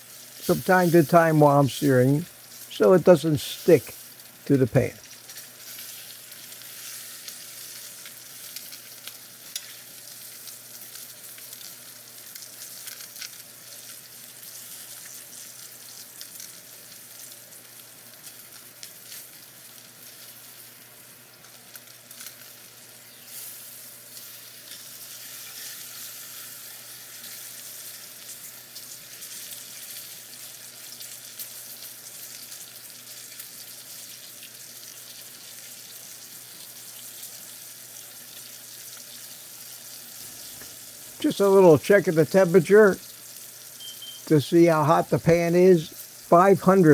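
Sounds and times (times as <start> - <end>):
steak sizzling in a pan: 0.0 - 46.9
crackles: 0.1 - 46.9.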